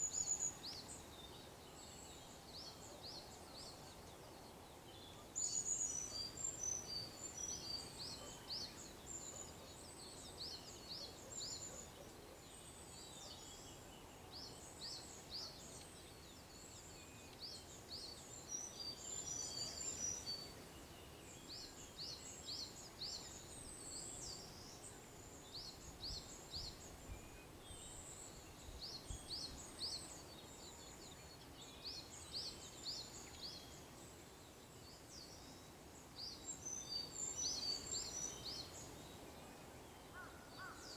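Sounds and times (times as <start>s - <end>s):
faint steady hiss: 0.0s - 40.9s
small songbirds chirping: 0.0s - 40.9s.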